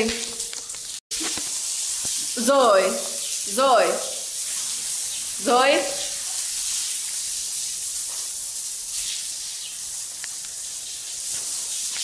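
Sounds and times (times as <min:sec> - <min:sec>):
hose spraying water on tiles: 0:00.0 - 0:12.0.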